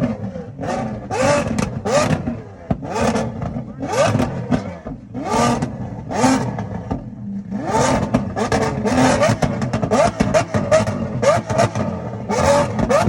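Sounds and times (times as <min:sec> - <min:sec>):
car engine revving: 0:00.0 - 0:13.0
exhaust cracks: 0:00.0 - 0:13.0.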